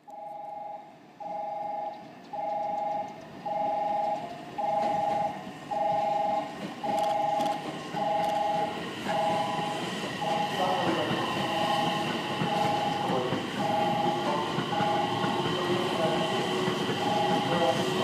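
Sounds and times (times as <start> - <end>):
train rumble: 0.0 - 18.0
two-note railway warning beeps: 0.0 - 18.0
train wheel clicks: 1.8 - 18.0.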